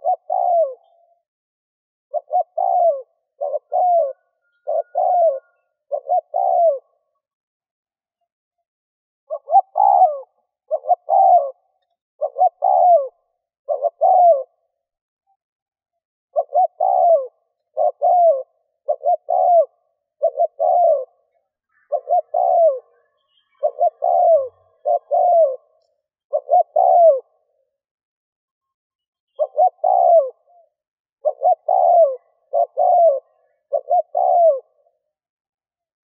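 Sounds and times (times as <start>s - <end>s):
dove cooing: 0.0s - 1.2s, 2.1s - 7.2s, 9.3s - 14.8s, 16.3s - 27.7s, 29.3s - 35.1s.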